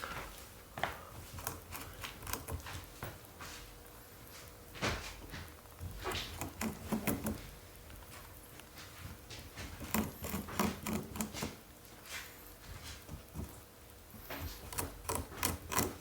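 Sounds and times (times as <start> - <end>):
rabbit chewing paper: 1.1 - 16.0.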